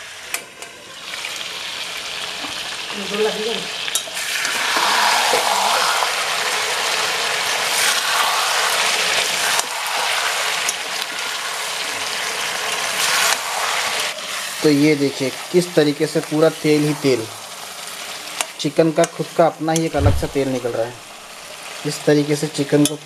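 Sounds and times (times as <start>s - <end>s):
chicken sizzling in oil: 0.0s - 19.9s, 20.6s - 23.0s.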